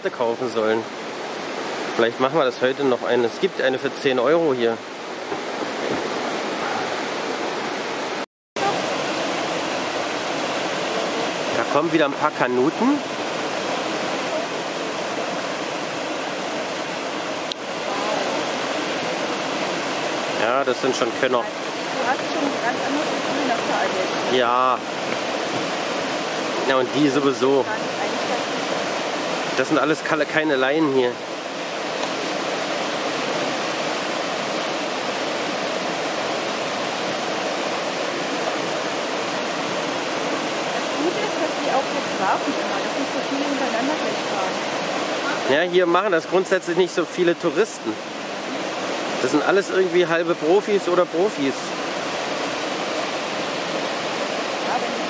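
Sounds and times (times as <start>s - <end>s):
river rapids rushing: 0.0s - 55.0s.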